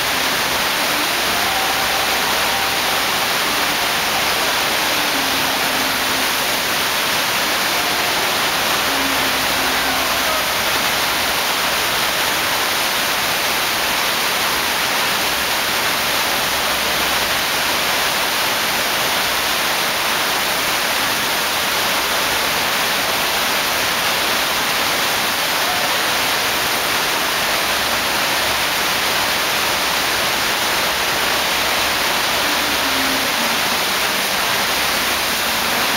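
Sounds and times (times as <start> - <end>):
water rushing from wave machine: 0.0 - 35.9.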